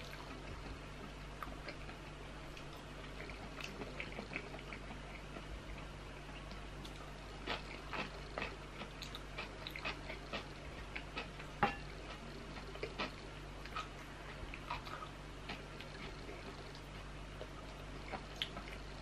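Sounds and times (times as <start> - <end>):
chewing and mouth smacks: 0.0 - 19.0.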